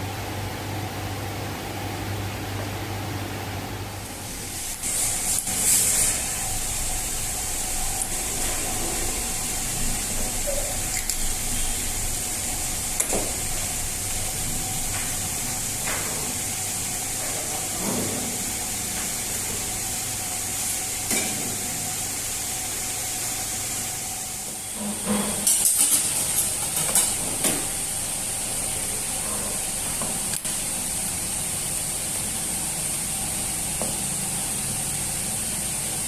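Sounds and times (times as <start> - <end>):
kitchen hiss: 4.2 - 36.0.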